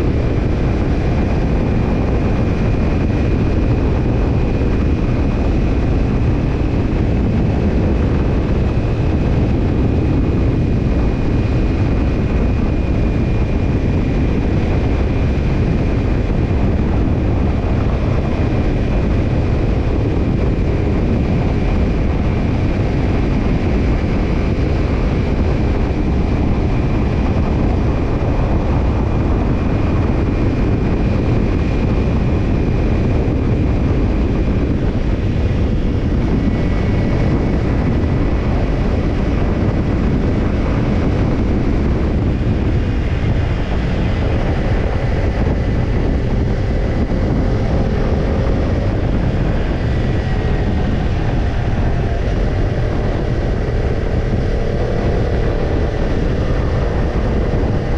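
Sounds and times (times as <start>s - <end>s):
motorcycle exhaust at steady speed: 0.0s - 57.9s
wind and road noise: 0.0s - 57.9s.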